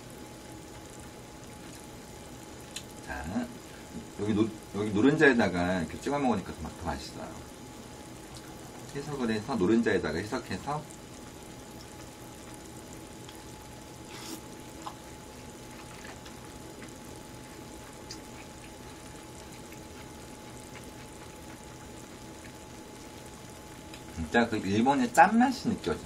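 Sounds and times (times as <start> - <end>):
broth bubbling in a pan: 0.0 - 26.0.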